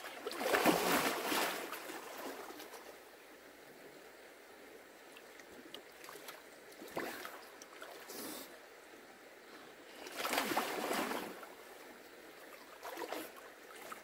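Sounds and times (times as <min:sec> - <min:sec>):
stream trickling: 0:00.0 - 0:14.0.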